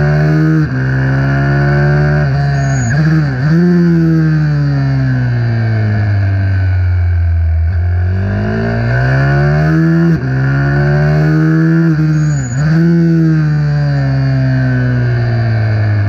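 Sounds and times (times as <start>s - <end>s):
minibike engine revving: 0.0s - 6.2s, 8.0s - 16.0s.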